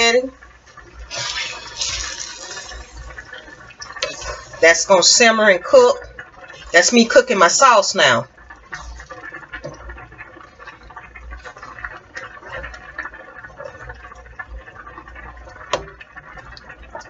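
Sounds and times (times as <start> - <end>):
sauce bubbling in a skillet: 0.0 - 17.0.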